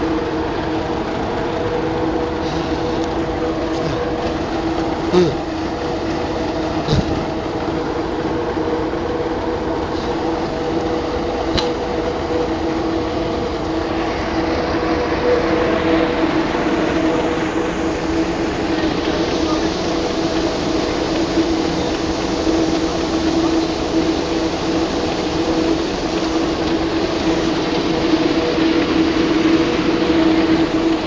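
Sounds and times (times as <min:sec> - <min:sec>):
combine harvester hum: 0:00.0 - 0:31.0.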